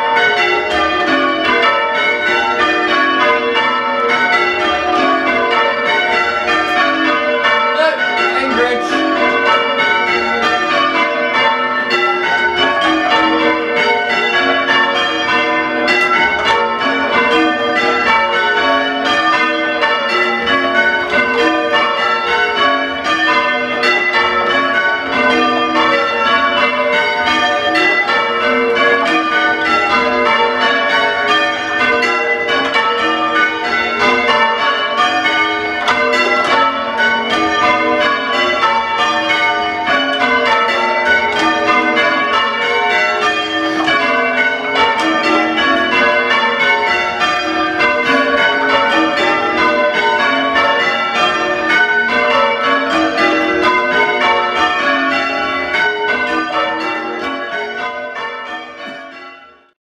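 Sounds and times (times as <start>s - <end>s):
church bells ringing: 0.0s - 59.8s.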